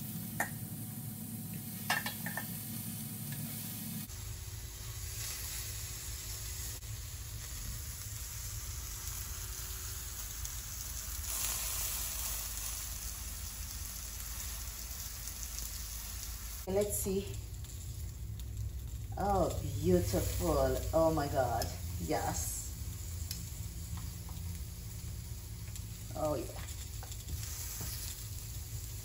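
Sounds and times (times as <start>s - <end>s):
vegetables sizzling on a grill: 0.0s - 29.0s.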